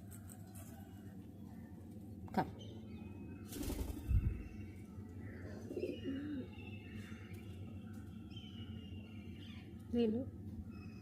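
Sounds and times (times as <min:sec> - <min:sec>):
birds chirping faintly: 0:00.1 - 0:11.0.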